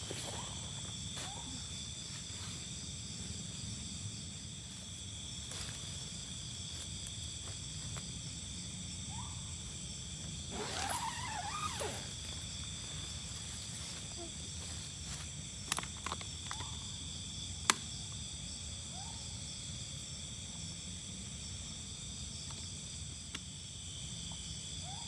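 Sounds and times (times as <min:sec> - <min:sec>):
crickets and insects trilling: 0:00.0 - 0:25.0.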